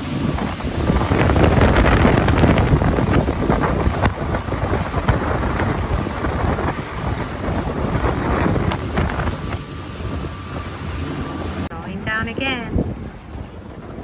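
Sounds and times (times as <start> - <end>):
water rushing past hull: 0.0 - 14.0
wind buffeting microphone: 0.0 - 14.0.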